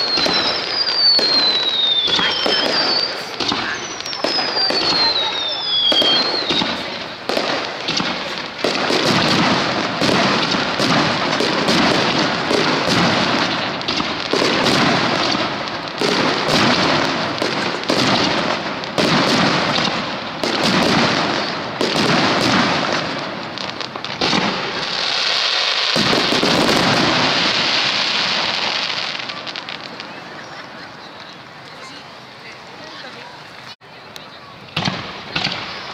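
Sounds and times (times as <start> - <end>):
fireworks bursting: 0.0 - 35.9
fireworks hiss: 0.0 - 35.9.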